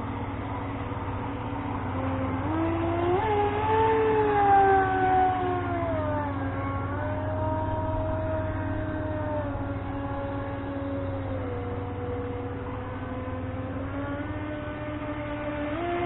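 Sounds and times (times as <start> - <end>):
electric motor whining: 0.0 - 16.0
steady low hum: 0.0 - 16.0.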